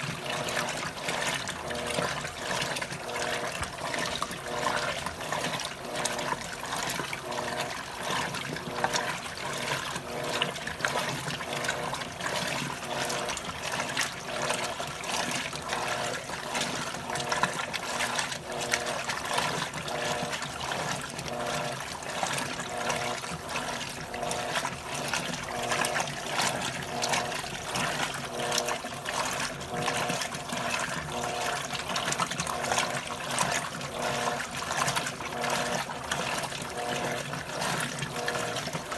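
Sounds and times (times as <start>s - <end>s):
washing machine motor hum: 0.0s - 38.9s
water sloshing: 0.0s - 38.9s.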